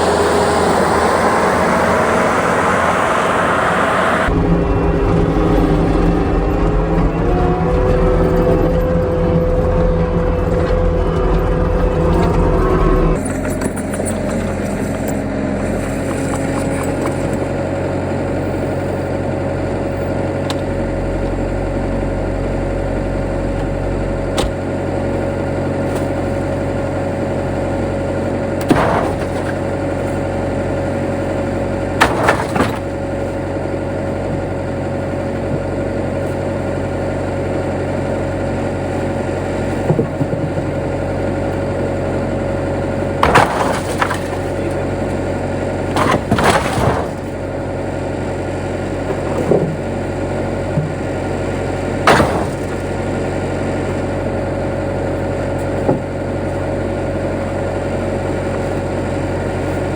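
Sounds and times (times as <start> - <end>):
engine droning steadily: 0.0 - 59.9.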